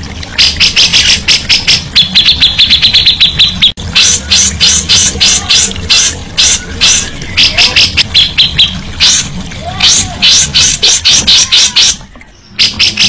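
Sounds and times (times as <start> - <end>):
bulbul singing harsh notes: 0.4 - 12.0.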